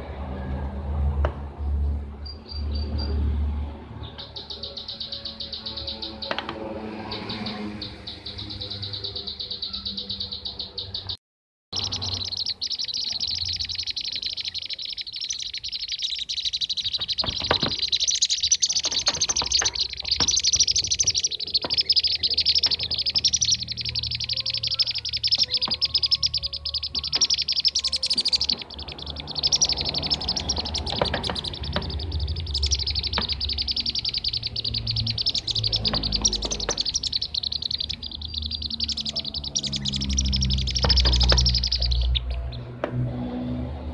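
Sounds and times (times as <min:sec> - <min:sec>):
rapid high bird chirps: 0:02.1 - 0:42.8.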